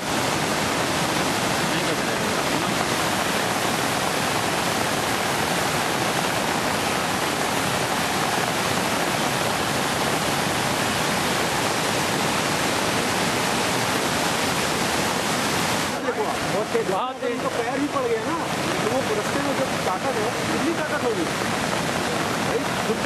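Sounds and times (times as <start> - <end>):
river water rushing over rocks: 0.0 - 23.0.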